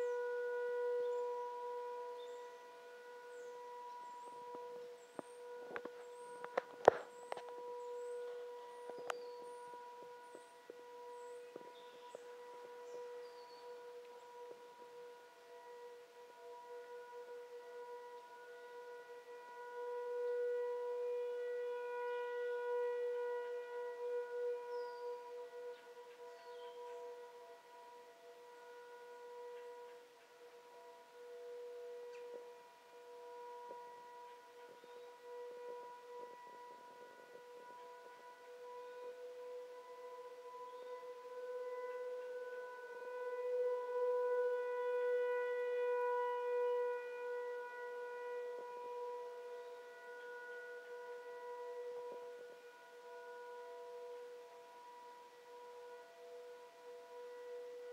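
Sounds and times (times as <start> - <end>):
warning siren steady tone: 0.0 - 57.9.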